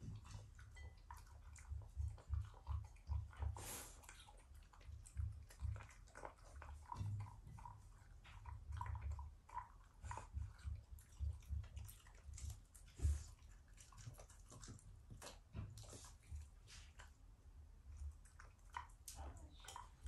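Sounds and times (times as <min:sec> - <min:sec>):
mouth and chewing noises: 0:00.0 - 0:20.0.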